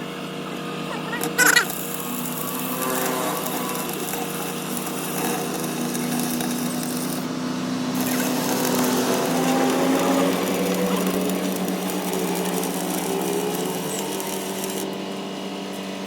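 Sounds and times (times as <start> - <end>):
power tool motor humming: 0.4 - 16.0.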